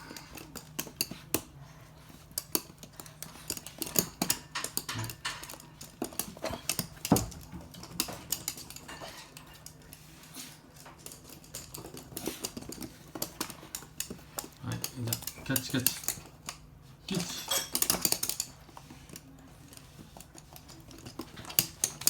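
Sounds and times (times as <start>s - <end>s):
dog claws clicking on hard floor: 0.0s - 22.0s.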